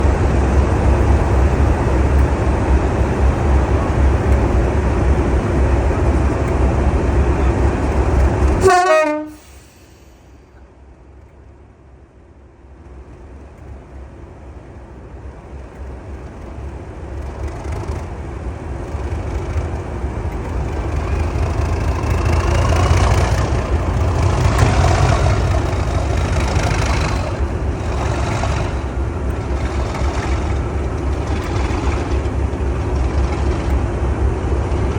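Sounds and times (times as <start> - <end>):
diesel locomotive engine rumbling: 0.0 - 34.9.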